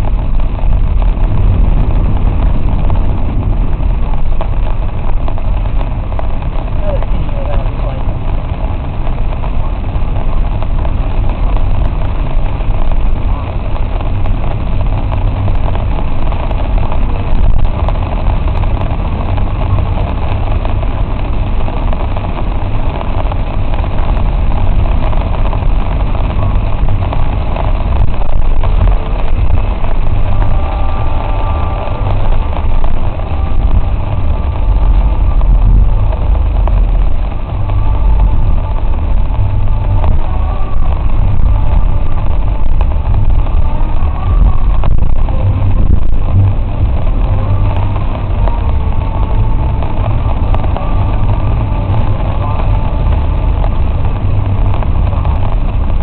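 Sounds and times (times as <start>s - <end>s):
car engine and road rumble: 0.0s - 56.0s
constant noisy hiss: 0.0s - 56.0s.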